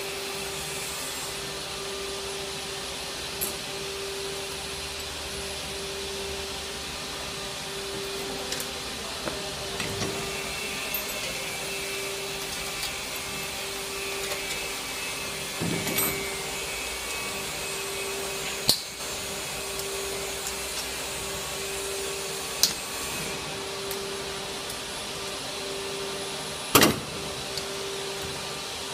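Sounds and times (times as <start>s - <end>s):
machinery hum and hiss: 0.0s - 28.9s.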